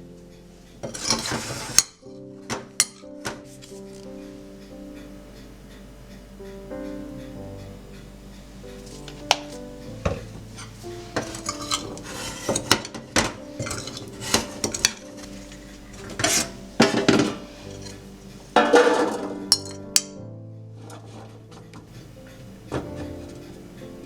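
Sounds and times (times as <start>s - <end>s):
soft background music: 0.0s - 24.0s
dishes and cutlery clattering: 0.8s - 5.5s, 8.6s - 20.2s, 20.8s - 24.0s.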